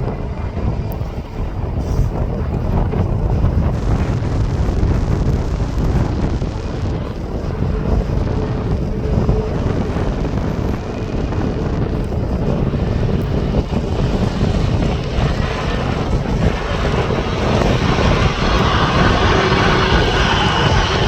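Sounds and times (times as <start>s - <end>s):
airliner engines running: 0.0s - 21.0s
wind rumble on microphone: 0.0s - 21.0s.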